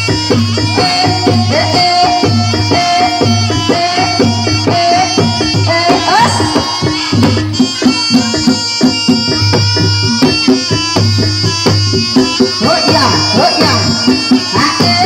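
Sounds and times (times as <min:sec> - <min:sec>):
sustained high melodic tones: 0:00.0 - 0:15.0.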